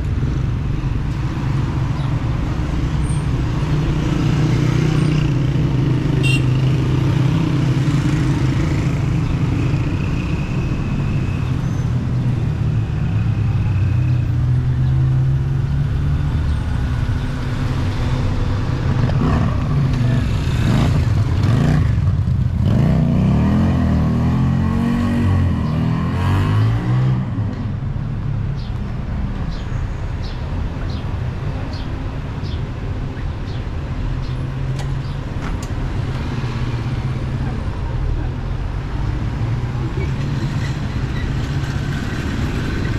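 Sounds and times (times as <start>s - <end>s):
street traffic passing: 0.0s - 42.9s.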